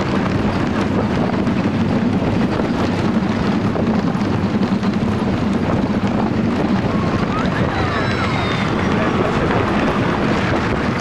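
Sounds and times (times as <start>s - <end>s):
roller coaster rumbling and rattling: 0.0s - 11.0s.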